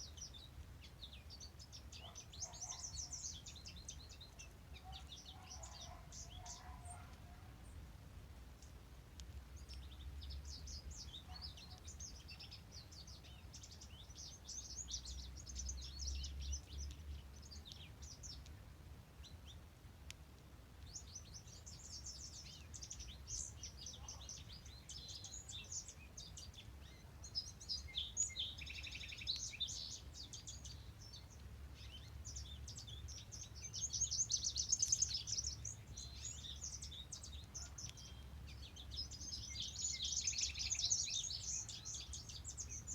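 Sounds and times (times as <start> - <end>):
songbirds singing and trilling: 0.0 - 42.9.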